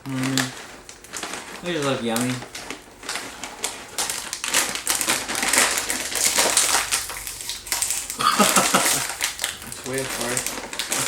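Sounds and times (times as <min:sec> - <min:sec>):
plastic snack bag crinkling: 0:00.0 - 0:11.0.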